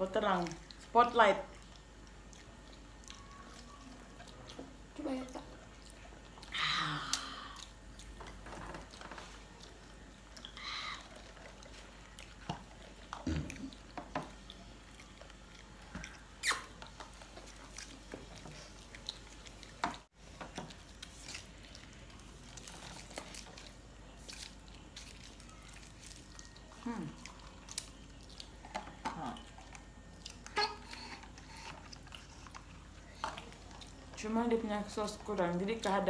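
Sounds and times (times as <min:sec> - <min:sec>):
people chewing: 0:00.0 - 0:36.0.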